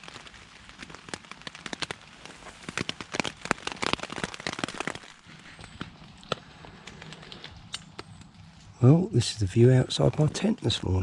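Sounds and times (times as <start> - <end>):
rain on a tent: 0.0 - 11.0.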